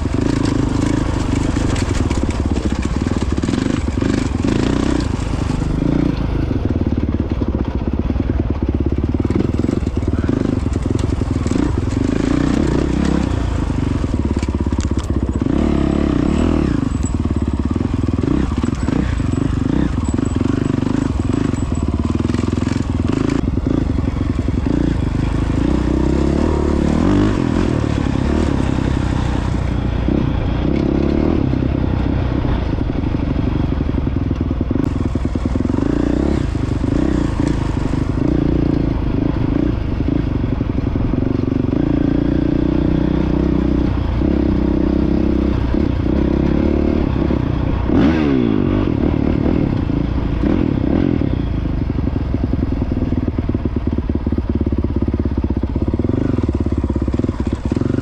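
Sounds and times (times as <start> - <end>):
dirt bike engine revving: 0.0 - 53.7, 54.4 - 58.0.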